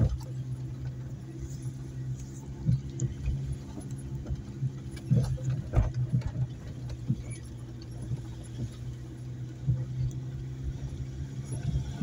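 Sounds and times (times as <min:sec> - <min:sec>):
knocks and rattles on rough track: 0:00.0 - 0:12.0
vehicle engine running: 0:00.0 - 0:12.0.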